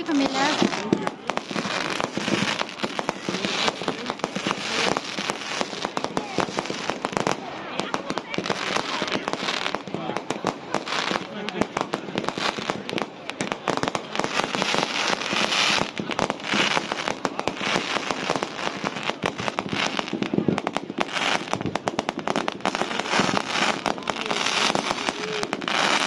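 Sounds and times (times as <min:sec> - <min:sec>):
crackling fireworks stars: 0:00.0 - 0:26.0
fireworks bangs: 0:00.0 - 0:26.0.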